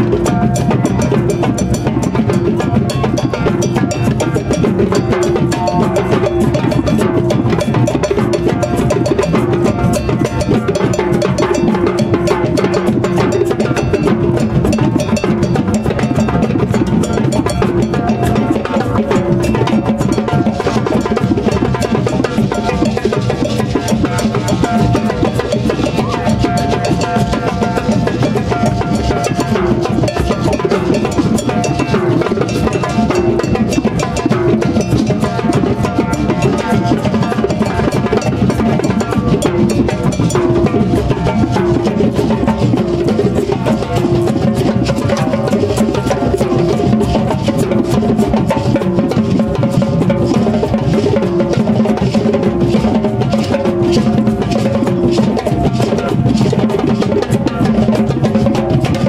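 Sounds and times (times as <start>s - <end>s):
drum circle playing rhythm: 0.0s - 59.0s.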